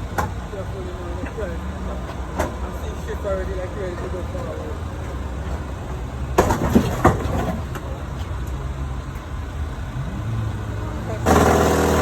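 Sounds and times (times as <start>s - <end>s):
heavy engine running: 0.0s - 12.0s.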